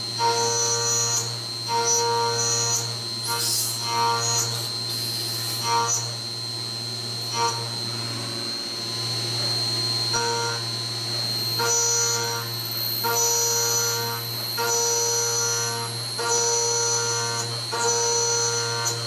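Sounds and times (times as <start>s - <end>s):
end mill cutting metal whine: 0.0s - 19.0s
milling machine spindle hum: 0.0s - 19.0s.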